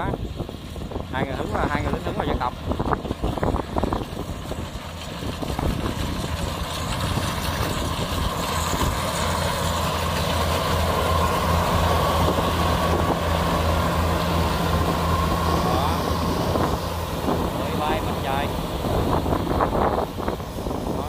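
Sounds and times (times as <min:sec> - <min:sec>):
combine harvester humming: 0:00.0 - 0:21.0
steady whine: 0:00.0 - 0:21.0.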